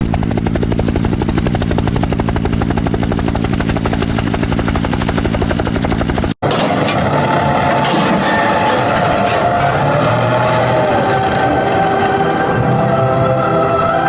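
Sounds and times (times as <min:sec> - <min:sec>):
helicopter rotor chopping: 0:00.0 - 0:13.2.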